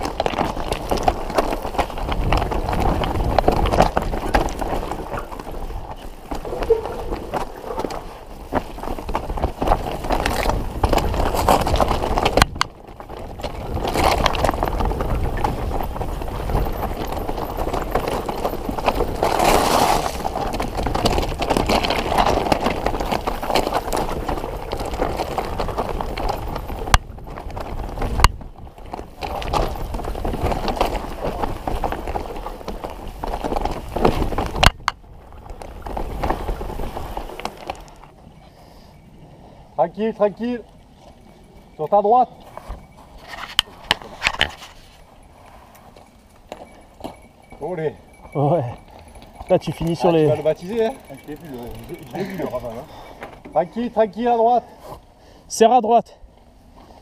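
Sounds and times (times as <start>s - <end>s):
tyres crunching over stones: 0.0s - 38.4s, 40.1s - 55.1s
bike rattling: 0.0s - 57.0s.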